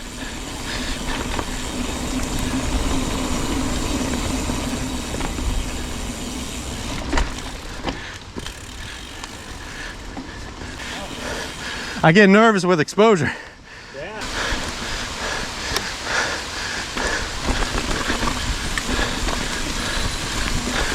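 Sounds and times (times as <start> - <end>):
sharp bike rattles: 0.0 - 12.0, 14.2 - 20.9
bike tyre and drivetrain noise: 0.0 - 12.4, 13.2 - 20.9.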